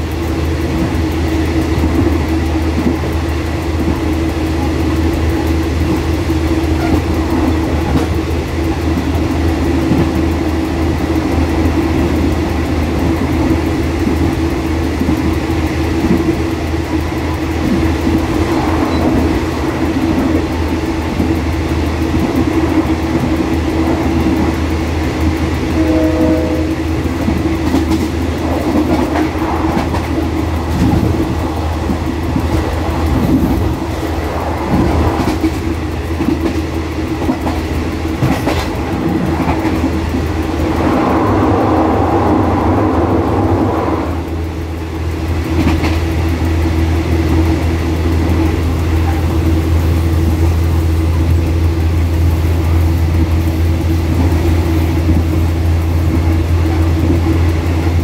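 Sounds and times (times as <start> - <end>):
locomotive engine drone: 0.0 - 58.0
wheels clacking over rails: 0.0 - 58.0.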